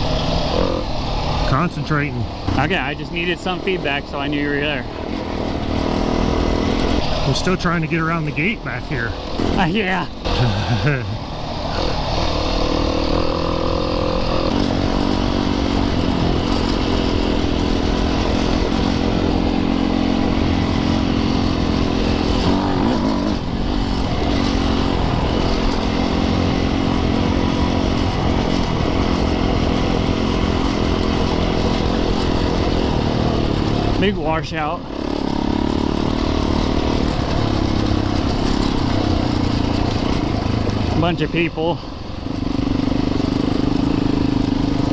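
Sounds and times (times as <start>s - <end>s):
dirt bike engine running: 0.0s - 44.9s.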